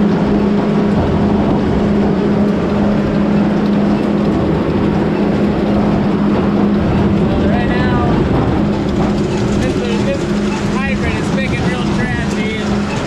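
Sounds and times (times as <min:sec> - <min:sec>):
constant hum: 0:00.0 - 0:13.0
farm machinery running: 0:00.0 - 0:13.0.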